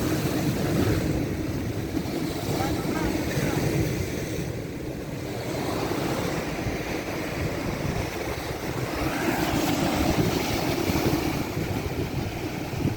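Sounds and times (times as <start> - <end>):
ocean waves washing: 0.0 - 12.9
wind buffeting microphone: 0.0 - 12.9.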